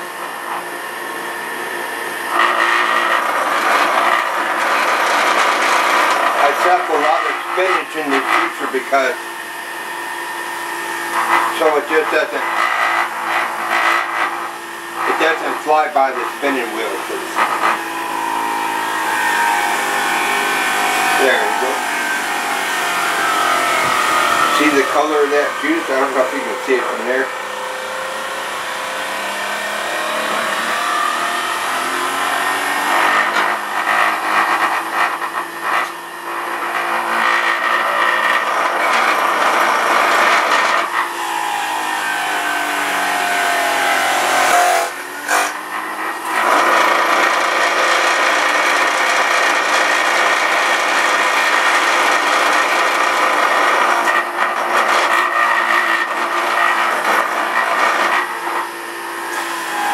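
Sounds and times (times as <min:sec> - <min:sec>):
electric juicer motor running: 0:00.0 - 0:59.9.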